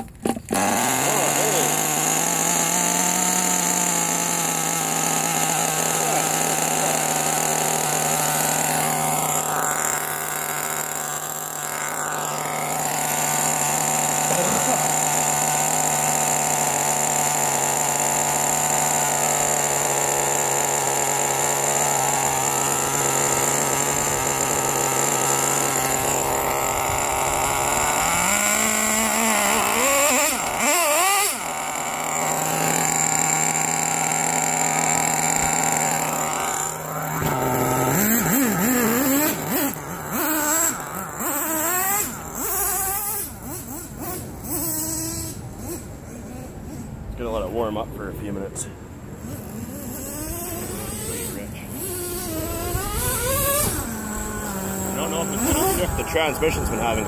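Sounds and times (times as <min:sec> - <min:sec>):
model engine idling and revving: 0:00.0 - 0:57.0.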